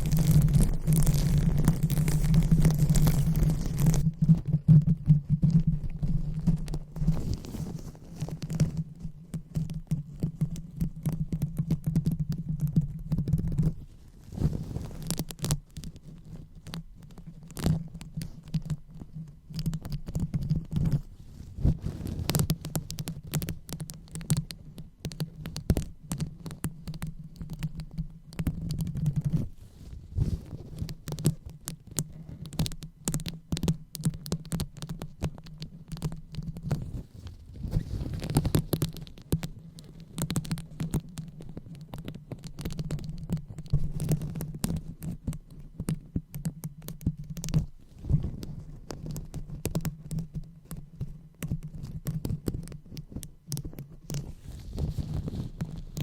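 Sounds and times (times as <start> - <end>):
fingers tapping and rubbing microphone: 0.0 - 56.0.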